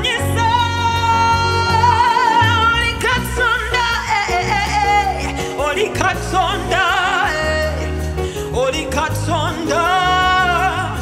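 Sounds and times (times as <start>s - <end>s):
person singing with vibrato: 0.0s - 11.0s
steady bass: 0.0s - 11.0s.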